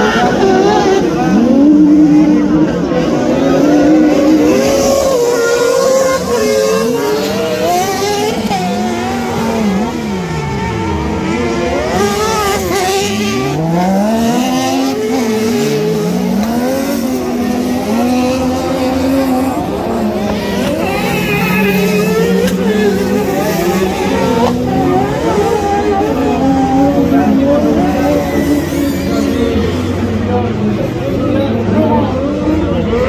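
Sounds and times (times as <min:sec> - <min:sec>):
buggy engines racing: 0:00.0 - 0:33.0.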